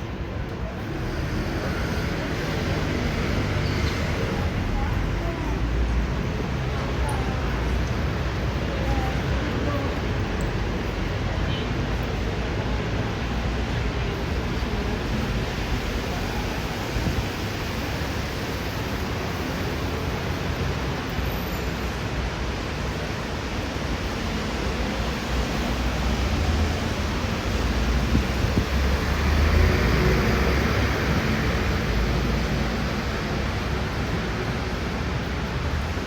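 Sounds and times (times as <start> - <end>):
traffic on wet pavement: 0.0 - 36.0.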